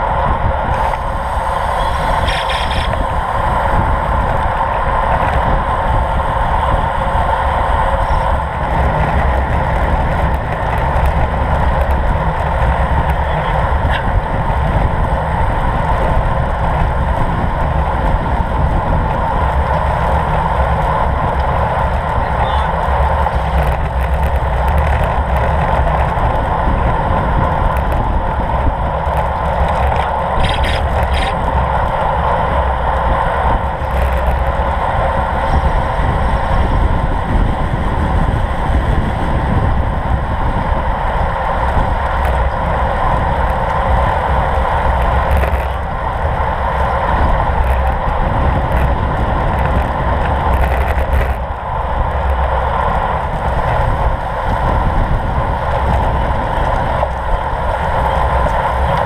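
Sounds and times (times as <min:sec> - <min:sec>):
tyre and road noise: 0:00.0 - 0:59.0
wind on microphone: 0:00.0 - 0:59.0.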